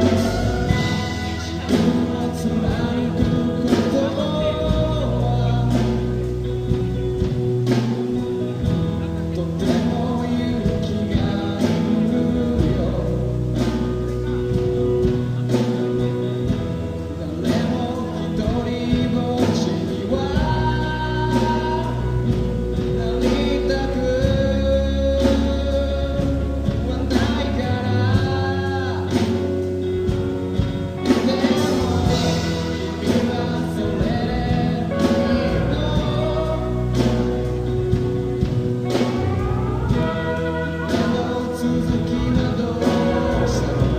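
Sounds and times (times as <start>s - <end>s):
band playing a song: 0.0s - 43.9s
male lead vocal: 0.0s - 43.9s
steady drum beat: 0.0s - 43.9s.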